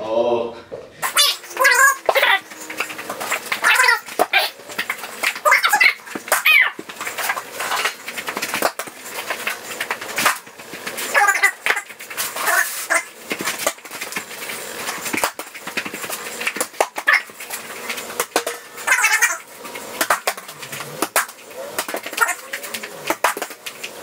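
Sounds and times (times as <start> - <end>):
small basketball hitting hoop and wall: 1.0 - 24.0.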